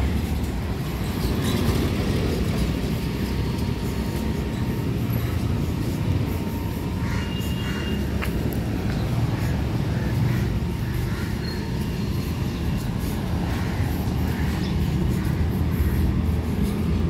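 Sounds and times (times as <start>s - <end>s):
motor-rickshaw engines rumbling: 0.0s - 17.0s
street traffic: 0.0s - 17.0s.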